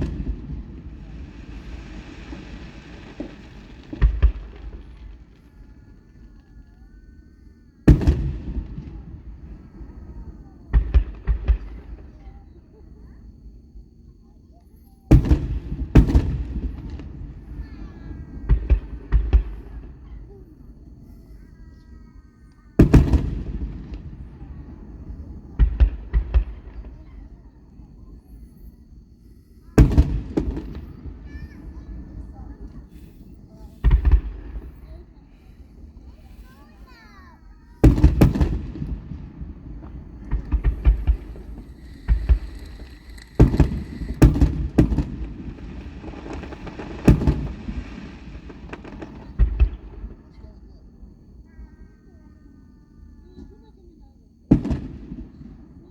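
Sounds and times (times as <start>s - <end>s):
sharp fireworks bangs: 0.0s - 7.1s, 7.7s - 14.1s, 14.8s - 52.1s, 53.4s - 55.9s
fireworks bursting: 0.0s - 51.7s, 53.4s - 55.9s.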